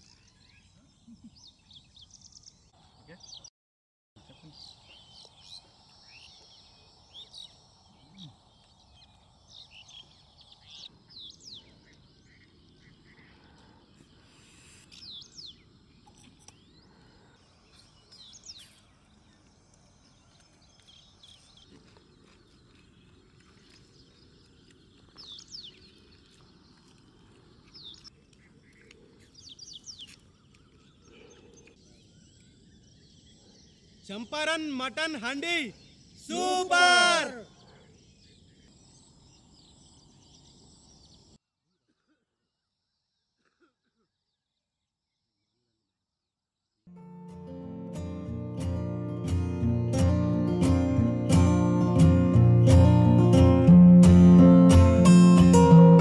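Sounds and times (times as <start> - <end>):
birds chirping: 4.2 - 41.4, 46.9 - 56.0.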